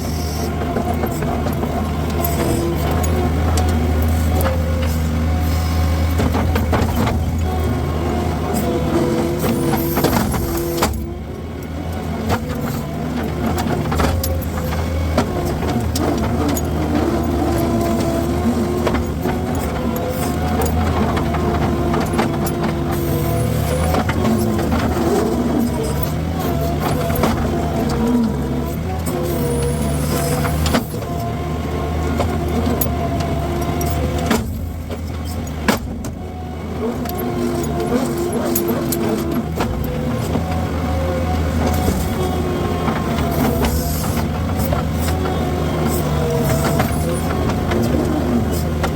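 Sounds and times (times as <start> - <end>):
skid steer engine running: 0.0 - 48.9.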